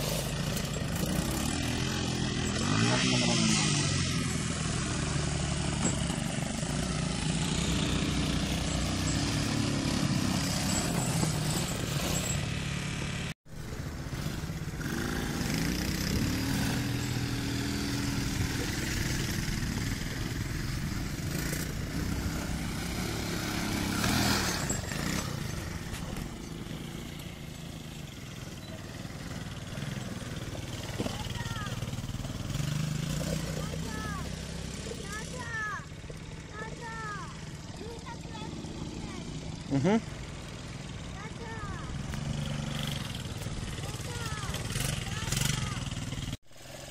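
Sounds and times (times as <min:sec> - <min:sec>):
quad engine revving: 0:00.0 - 0:46.9.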